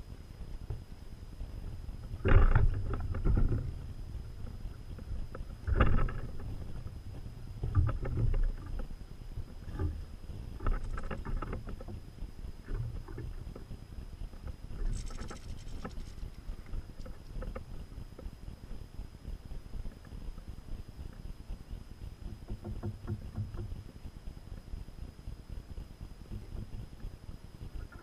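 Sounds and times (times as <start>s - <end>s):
faint high whine: 0.0s - 28.0s
wind rumble on microphone: 0.0s - 28.0s.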